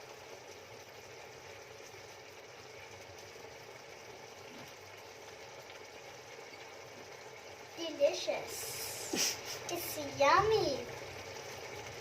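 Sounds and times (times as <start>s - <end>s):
food simmering in a pan: 0.0s - 12.0s.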